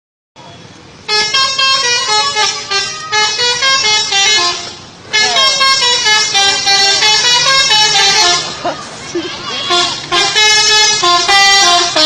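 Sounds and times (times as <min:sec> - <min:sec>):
bus musical horn tune: 0:01.0 - 0:12.0.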